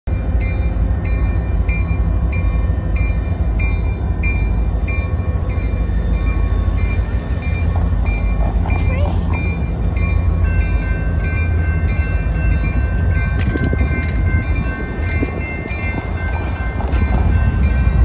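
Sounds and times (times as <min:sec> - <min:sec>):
crossing bell ringing: 0:00.1 - 0:18.0
diesel locomotives rumbling: 0:00.1 - 0:18.0.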